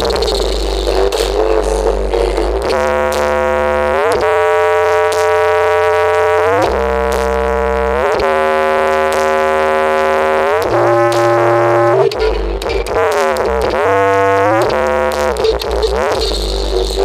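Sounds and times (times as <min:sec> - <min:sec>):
deep bass notes: 0:00.0 - 0:17.0
synthesizer chords sliding upward: 0:00.0 - 0:17.0.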